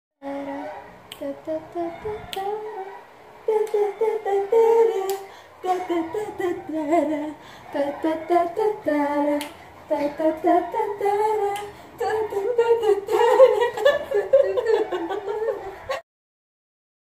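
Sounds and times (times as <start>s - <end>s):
woman humming and singing: 0.2s - 2.9s, 3.5s - 15.7s.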